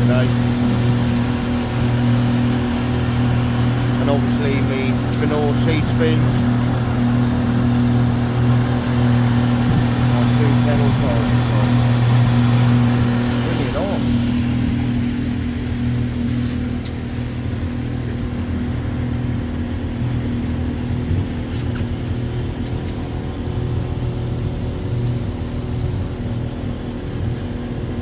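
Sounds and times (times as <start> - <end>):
outboard motor droning: 0.0 - 28.0
water rushing past hull: 0.0 - 28.0.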